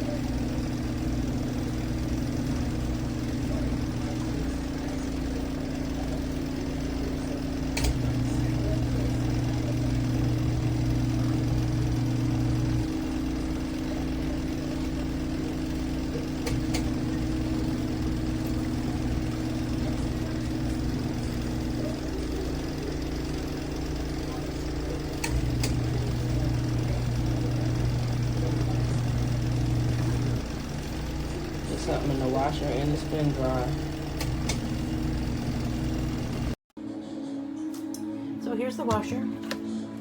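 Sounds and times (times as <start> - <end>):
washing machine motor humming: 0.0 - 36.6.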